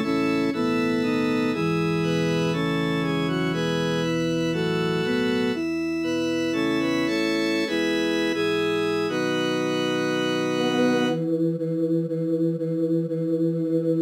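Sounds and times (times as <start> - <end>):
synthesized organ-like choral chords: 0.0 - 14.0.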